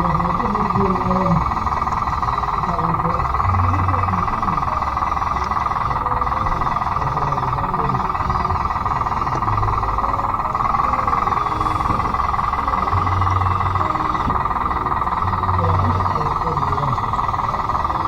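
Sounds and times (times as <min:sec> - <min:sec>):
electric motors whining: 0:00.0 - 0:18.0
low rumble: 0:00.0 - 0:18.0.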